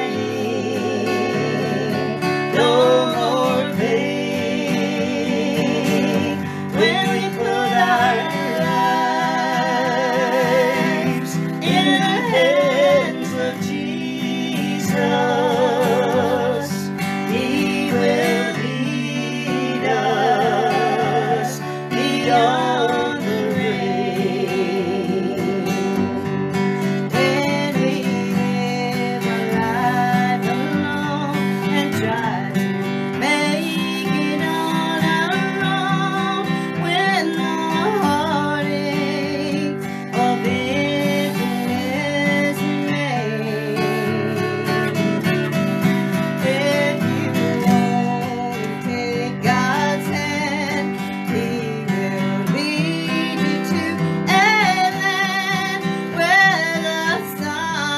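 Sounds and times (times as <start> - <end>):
acoustic guitar strumming: 0.0 - 57.9
man and woman singing: 0.0 - 57.9.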